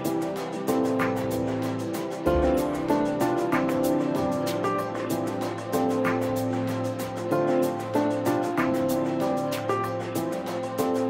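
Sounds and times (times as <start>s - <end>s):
light ticking beat: 0.0s - 11.0s.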